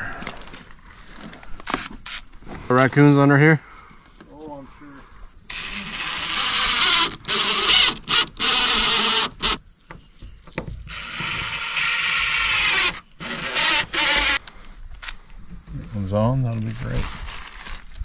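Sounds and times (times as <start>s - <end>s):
insect spray hissing: 0.0s - 18.0s.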